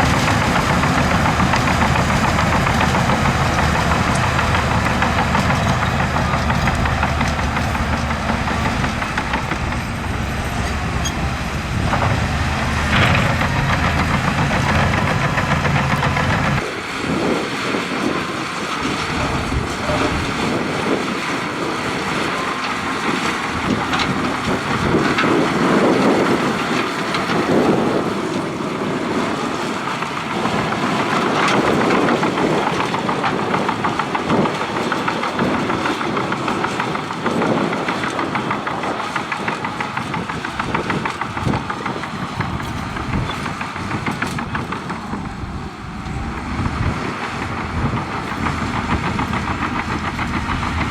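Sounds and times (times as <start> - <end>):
diesel engine under load: 0.0 - 50.9
steel tracks clattering: 0.0 - 50.9.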